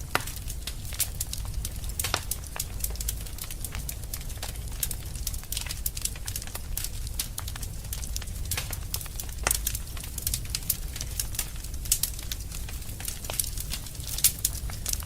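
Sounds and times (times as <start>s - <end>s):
fire pops and crackles: 0.0s - 15.0s
low rumble of flames: 0.0s - 15.0s.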